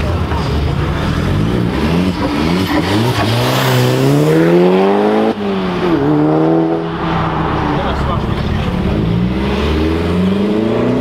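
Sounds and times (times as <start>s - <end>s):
car engine revving hard: 1.0s - 11.0s.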